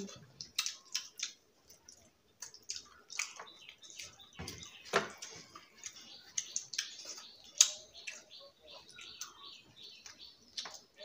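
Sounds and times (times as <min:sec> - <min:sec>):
wet eating squelches: 0:00.0 - 0:11.0.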